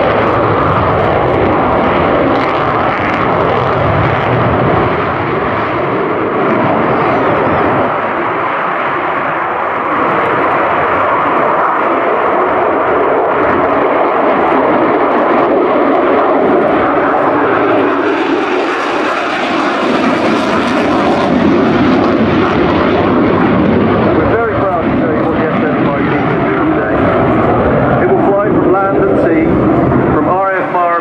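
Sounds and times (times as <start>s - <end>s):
jet engine roaring: 0.0s - 31.0s.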